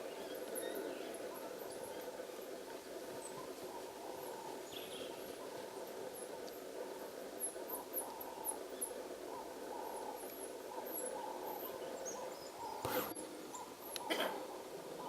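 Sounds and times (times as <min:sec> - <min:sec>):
lower animal chorus: 0:00.0 - 0:15.0.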